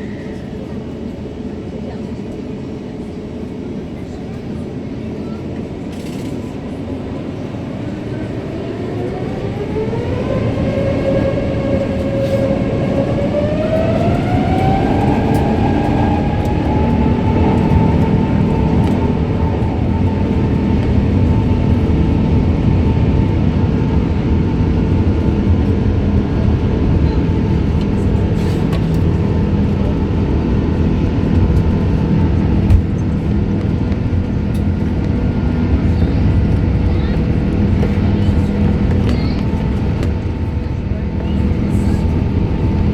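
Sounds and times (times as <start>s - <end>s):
loud engine rumble: 0.0s - 42.9s
jet engines spooling up: 5.4s - 42.9s.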